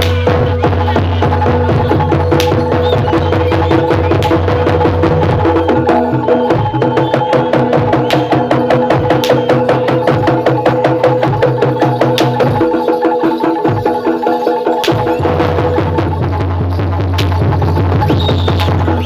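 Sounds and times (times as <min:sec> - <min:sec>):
fast dense drumming: 0:00.0 - 0:19.0.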